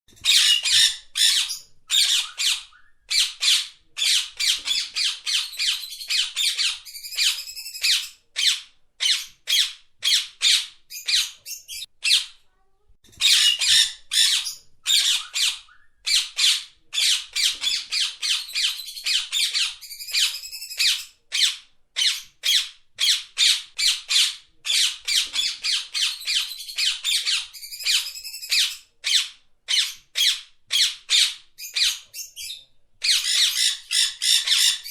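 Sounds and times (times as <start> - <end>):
parrot squawking: 0.2 - 12.4, 13.2 - 34.9.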